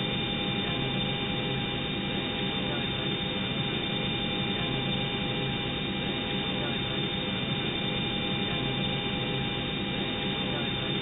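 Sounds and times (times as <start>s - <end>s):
thin constant tones: 0.0s - 11.0s.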